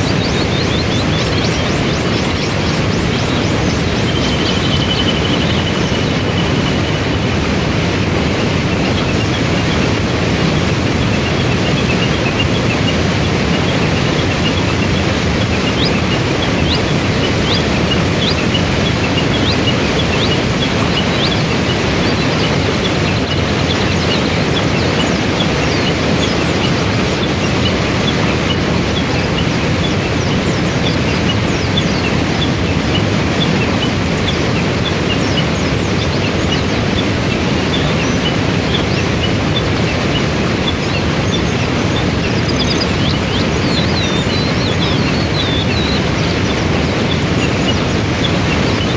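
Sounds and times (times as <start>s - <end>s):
small birds chirping: 0.0s - 48.9s
waterfall rushing over rocks: 0.0s - 48.9s.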